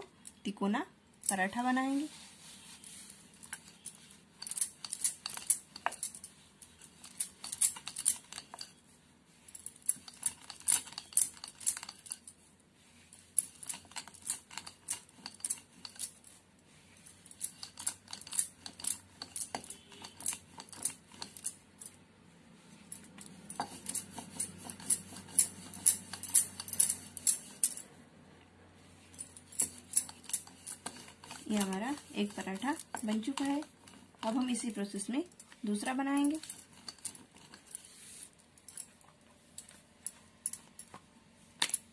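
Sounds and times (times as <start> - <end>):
bangles jangling: 2.8 - 8.8, 9.4 - 12.4, 13.1 - 22.0, 22.8 - 27.9, 29.0 - 41.0.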